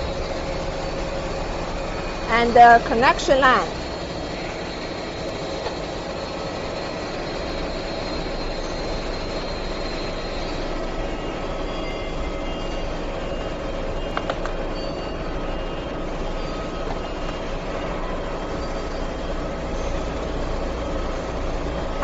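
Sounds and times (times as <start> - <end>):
faint whining tones: 0.0 - 22.0
mechanical drone: 0.0 - 22.0.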